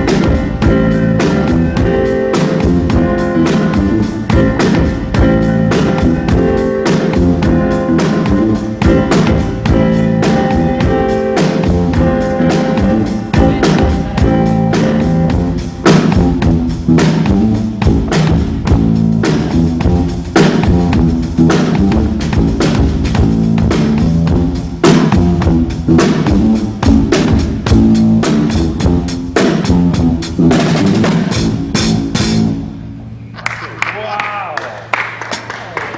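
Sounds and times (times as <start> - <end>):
drum kit beat: 0.0 - 33.3
keyboard chords: 0.0 - 33.4.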